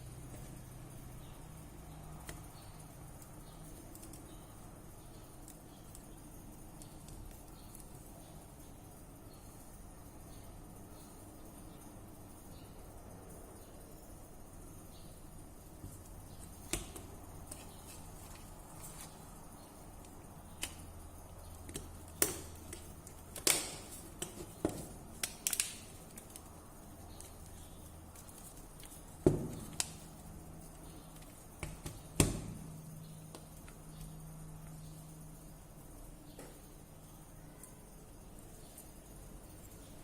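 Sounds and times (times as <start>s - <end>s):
faint low hum: 0.0s - 40.0s.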